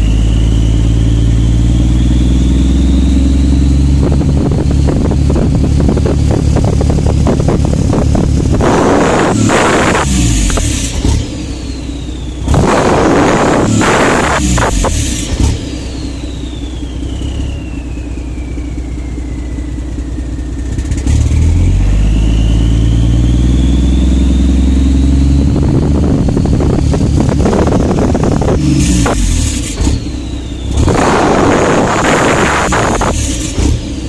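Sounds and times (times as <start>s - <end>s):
truck diesel engine revving: 0.0s - 17.9s, 20.6s - 34.0s
high engine whine: 0.0s - 34.0s.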